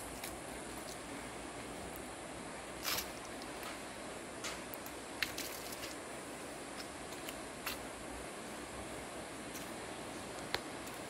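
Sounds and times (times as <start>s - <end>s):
rainforest ambience: 0.0s - 11.0s.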